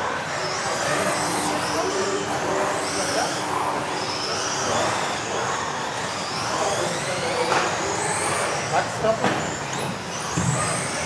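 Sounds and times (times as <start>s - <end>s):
electric motors whining: 0.0s - 11.0s
tyres and drivetrains noise: 0.0s - 11.0s.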